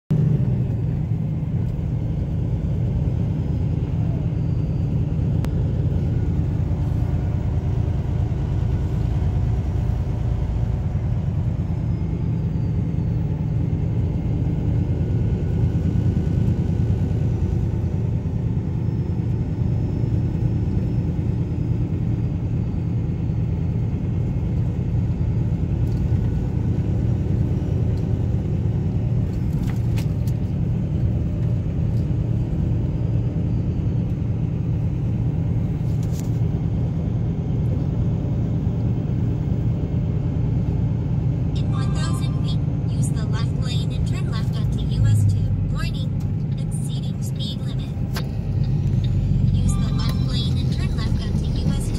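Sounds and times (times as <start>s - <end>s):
road noise: 0.1s - 51.9s
truck engine rumble: 0.1s - 51.9s.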